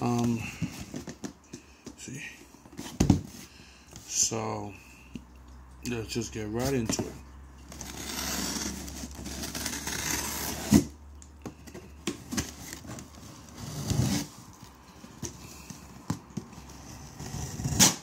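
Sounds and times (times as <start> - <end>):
cardboard box packing rustling: 0.0 - 4.3, 6.6 - 18.0.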